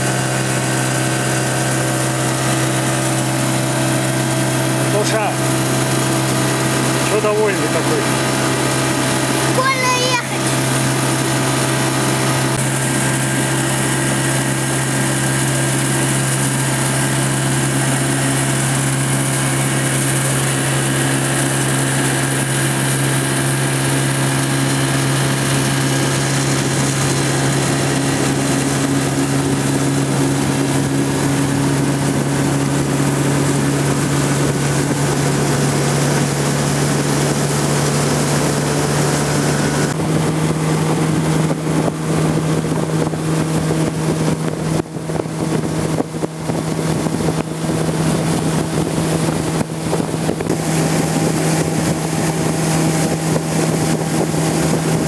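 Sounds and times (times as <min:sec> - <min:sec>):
motorboat engine droning: 0:00.0 - 0:55.0.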